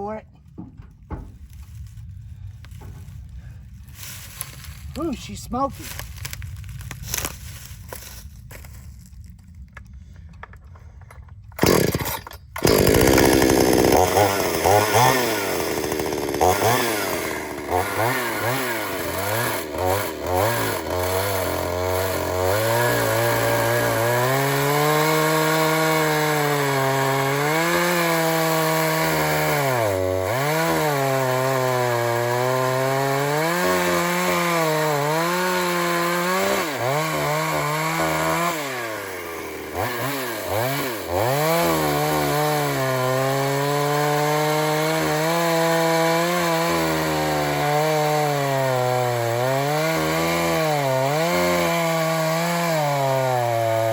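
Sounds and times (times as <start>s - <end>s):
chainsaw cutting log: 4.0s - 8.8s, 11.5s - 53.9s.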